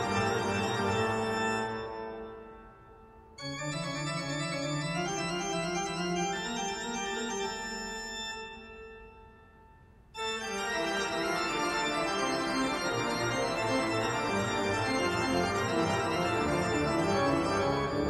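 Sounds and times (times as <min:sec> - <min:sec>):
organ-like keyboard music: 0:00.0 - 0:09.5, 0:10.2 - 0:18.0.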